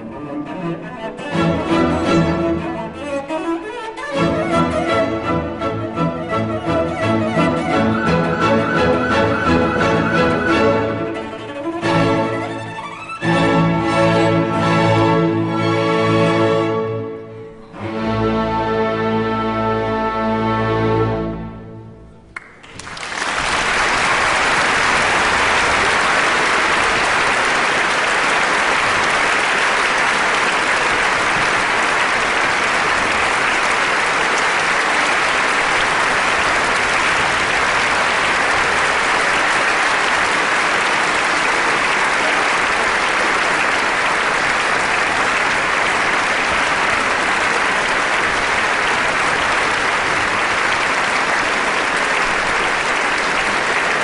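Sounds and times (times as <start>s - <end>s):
audience applause: 0.0s - 15.8s, 22.4s - 54.0s.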